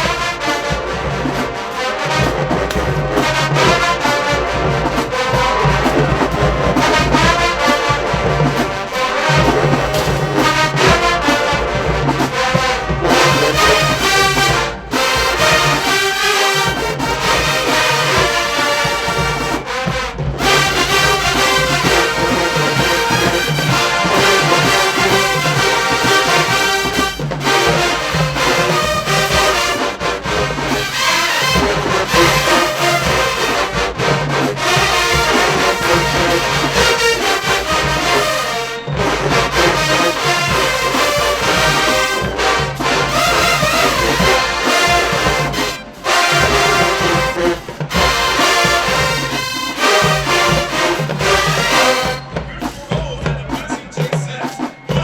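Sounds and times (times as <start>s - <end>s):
marching band playing: 0.0s - 55.0s
steady low drum beat: 0.0s - 55.0s
trombones and trumpets: 0.0s - 55.0s.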